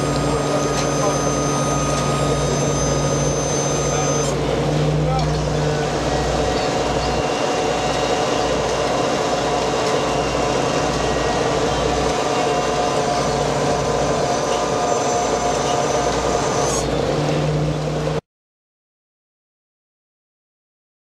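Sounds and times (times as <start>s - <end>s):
diesel engine and deck machinery: 0.0s - 18.2s.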